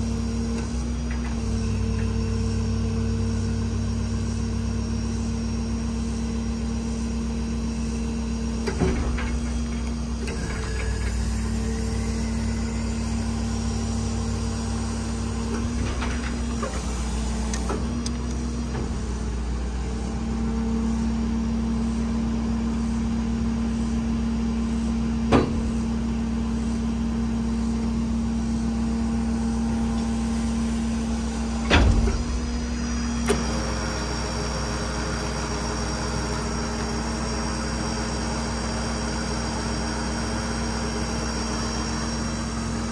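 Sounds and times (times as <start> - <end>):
diesel truck engine running: 0.0 - 42.9
hydraulic whine: 0.0 - 42.9.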